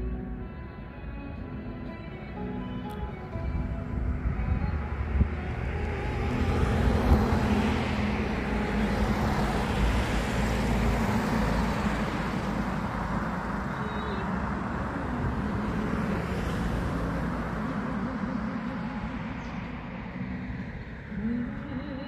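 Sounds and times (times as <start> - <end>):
vehicle passing with low rumble: 1.6 - 22.0.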